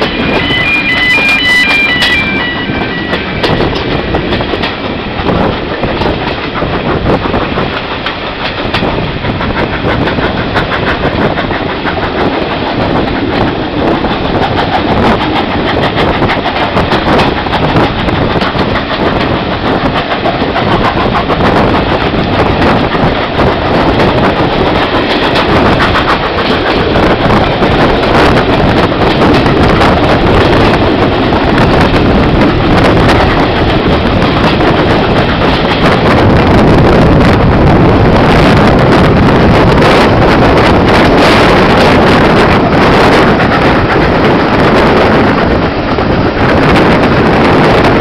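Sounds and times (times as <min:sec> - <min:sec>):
train running noise: 0:00.0 - 0:48.0
wheels clicking over rail joints: 0:02.0 - 0:48.0.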